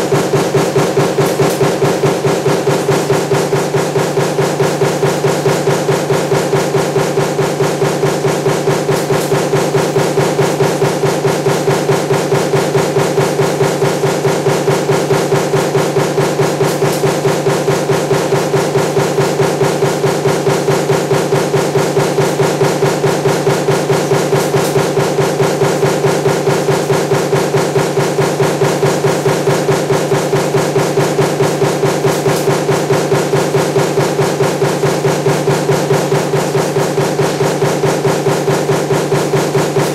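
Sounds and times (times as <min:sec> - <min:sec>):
machine hum: 0:00.0 - 0:39.9
punch press stamping: 0:00.0 - 0:39.9.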